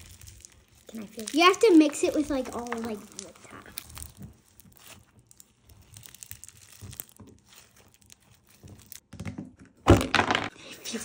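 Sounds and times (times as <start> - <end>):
slime with foam beads crackling: 0.0 - 9.1.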